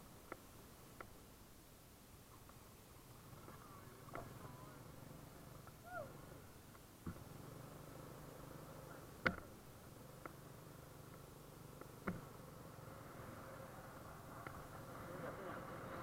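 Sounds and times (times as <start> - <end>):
motorbike engine hum: 3.1 - 16.0.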